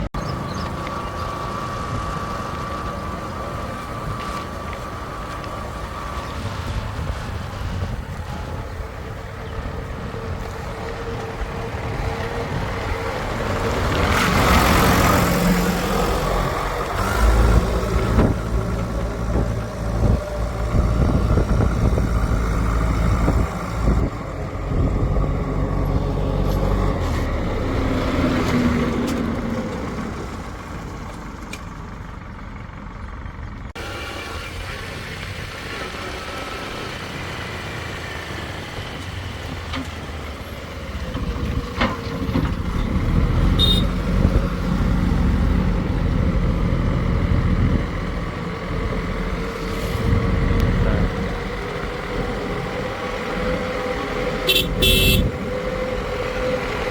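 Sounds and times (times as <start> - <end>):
diesel engine revving under load: 0.0 - 56.9.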